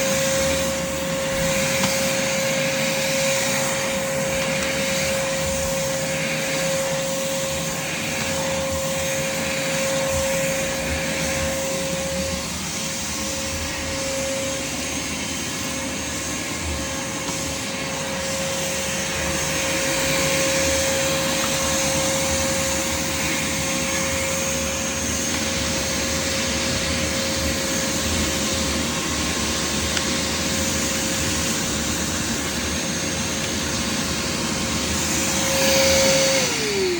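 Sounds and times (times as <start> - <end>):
shop vacuum running: 0.0 - 36.9.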